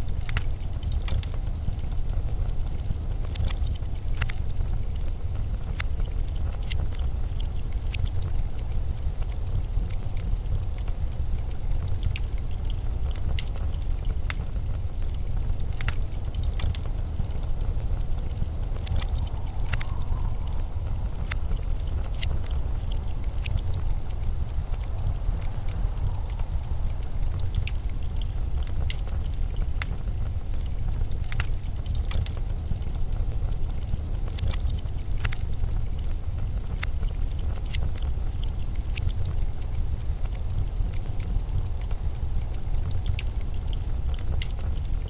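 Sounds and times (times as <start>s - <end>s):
blizzard wind rumble: 0.0s - 45.0s
sharp crackles and ticks: 0.0s - 45.0s.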